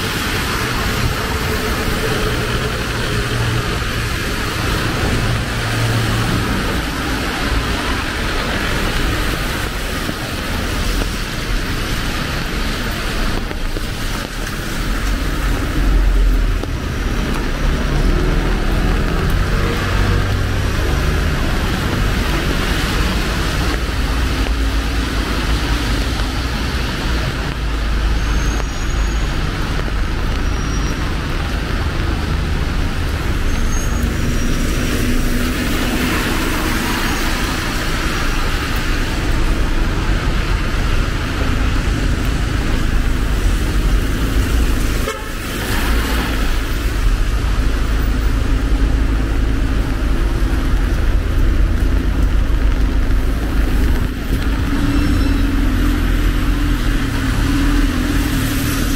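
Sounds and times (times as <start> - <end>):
cars and buses passing: 0.0 - 58.9.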